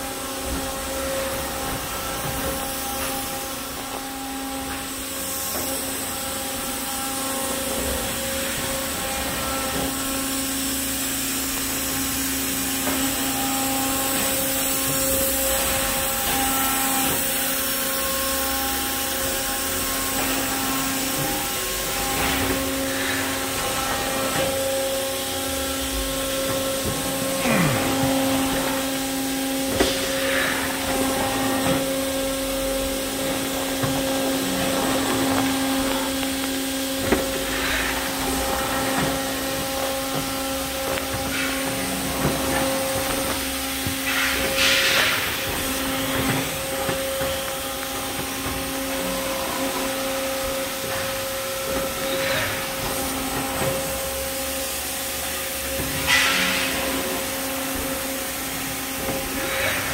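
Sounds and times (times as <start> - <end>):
factory machinery humming: 0.0 - 59.9.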